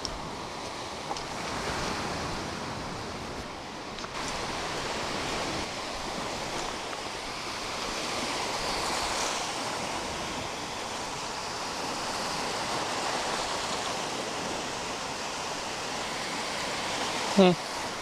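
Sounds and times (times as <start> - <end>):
surf washing onto beach: 0.0 - 18.0.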